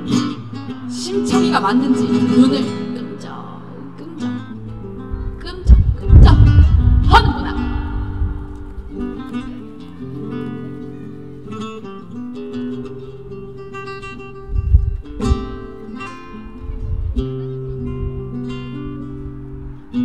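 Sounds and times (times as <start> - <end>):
flamenco acoustic guitar: 0.0 - 20.0.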